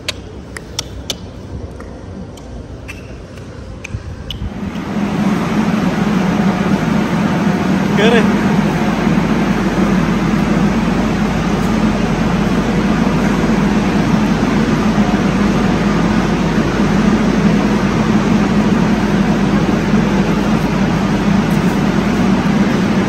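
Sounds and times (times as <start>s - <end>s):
train equipment hum: 0.0s - 23.0s.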